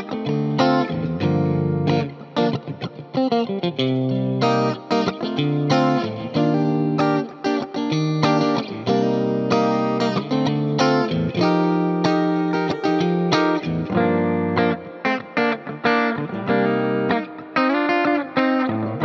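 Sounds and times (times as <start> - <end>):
electric guitar with delay and reverb: 0.0 - 19.0.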